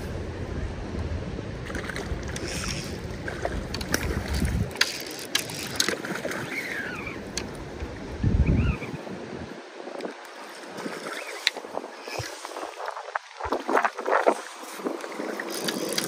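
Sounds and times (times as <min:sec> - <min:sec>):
river water flowing: 0:00.0 - 0:16.0
wind noise on microphone: 0:00.0 - 0:16.0.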